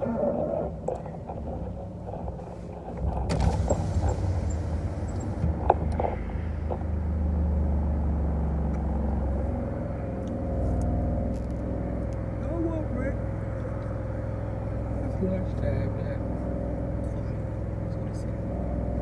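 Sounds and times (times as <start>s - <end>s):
car engine rumble from cabin: 0.0s - 19.0s.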